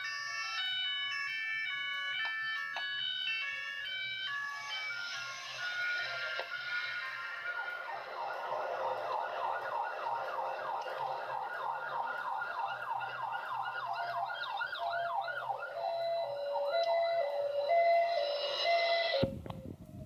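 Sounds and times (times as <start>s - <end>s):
emergency siren: 0.0s - 19.4s.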